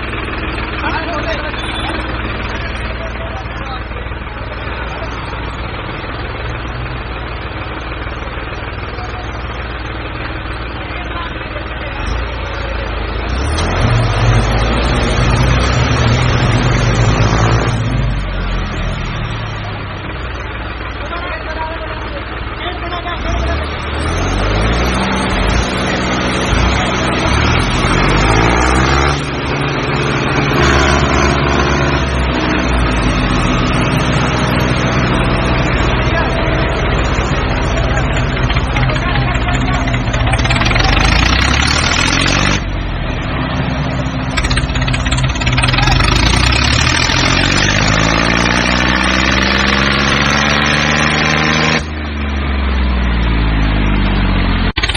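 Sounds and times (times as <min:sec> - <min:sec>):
construction vehicle engine idling: 0:00.0 - 0:48.6.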